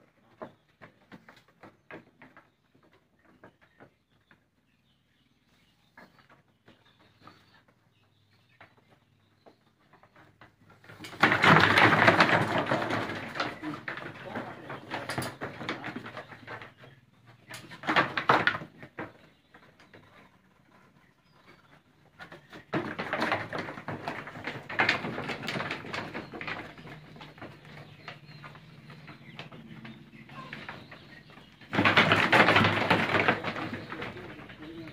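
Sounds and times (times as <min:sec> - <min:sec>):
hooves clattering on wooden slats: 0:00.0 - 0:34.9.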